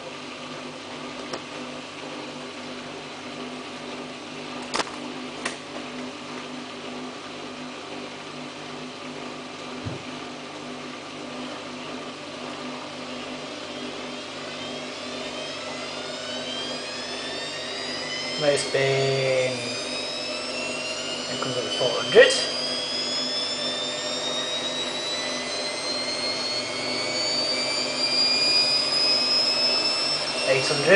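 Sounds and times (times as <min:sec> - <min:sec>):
rising drum motor whine: 0:00.0 - 0:30.9
washing machine motor hum: 0:00.0 - 0:30.9.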